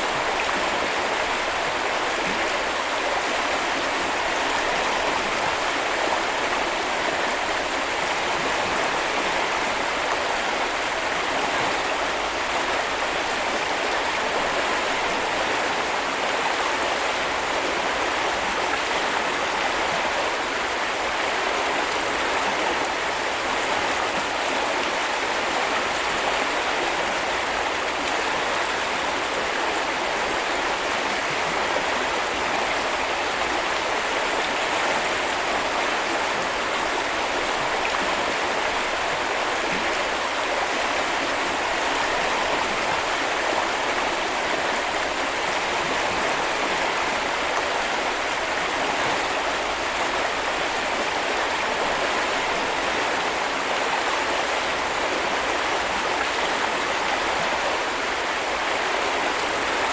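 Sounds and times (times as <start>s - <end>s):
brook flowing over stones: 0.0s - 59.9s.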